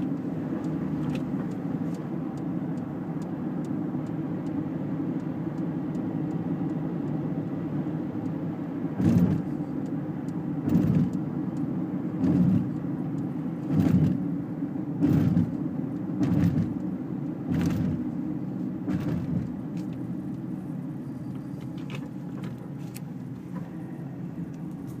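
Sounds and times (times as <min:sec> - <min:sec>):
car road noise from cabin: 0:00.0 - 0:25.0.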